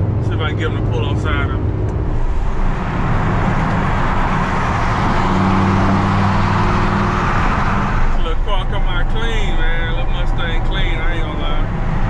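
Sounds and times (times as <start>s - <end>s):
low engine drone: 0.0s - 12.0s
wind and road noise: 0.0s - 12.0s.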